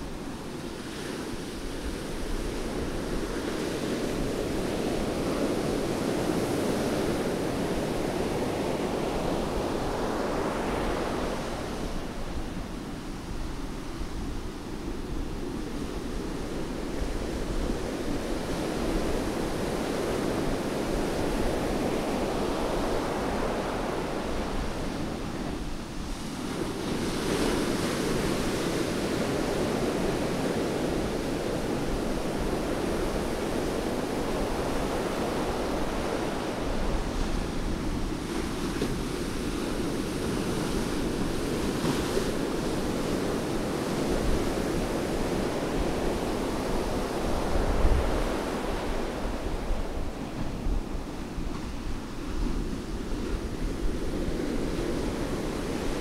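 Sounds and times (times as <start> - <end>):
sea surf breaking on beach: 0.0 - 56.0.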